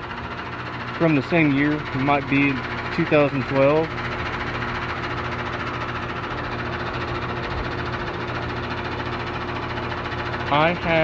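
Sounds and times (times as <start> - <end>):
compressor hum: 0.0 - 11.0
fan rushing air: 0.0 - 11.0.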